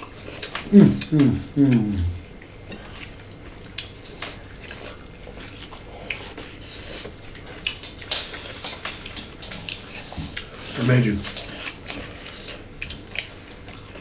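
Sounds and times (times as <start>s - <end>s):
wet chewing and crunching: 0.0s - 14.0s.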